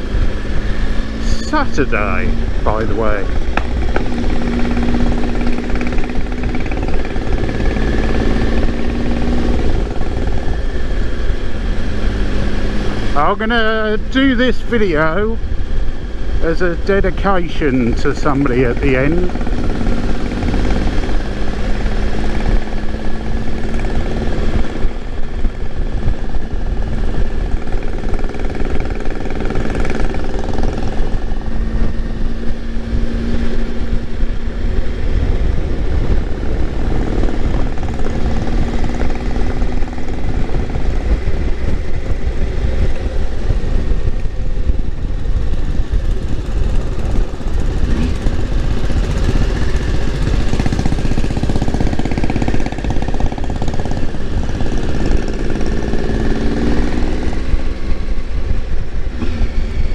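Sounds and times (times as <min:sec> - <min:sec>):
motorcycle engine running steadily: 0:00.0 - 0:59.9
wind rush on microphone: 0:00.0 - 0:59.9.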